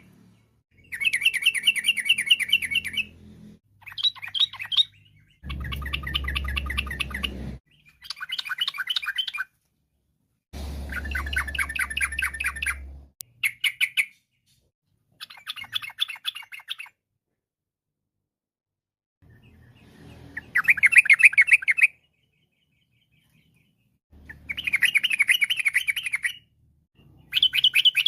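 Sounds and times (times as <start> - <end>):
bird singing repeated notes: 0.0 - 9.5, 10.9 - 14.6, 15.2 - 17.0, 19.2 - 28.0.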